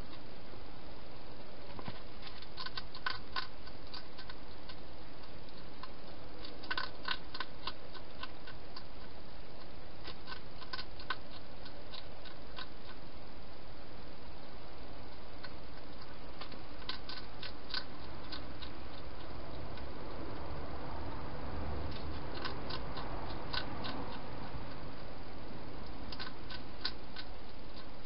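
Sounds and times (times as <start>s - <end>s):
steady hiss: 0.0s - 28.0s
hedgehog chewing crunchily: 1.6s - 28.0s.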